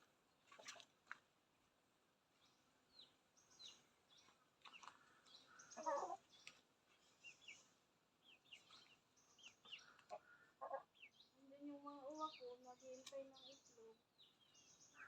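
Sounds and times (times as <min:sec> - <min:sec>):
small birds chirping: 0:02.3 - 0:15.0.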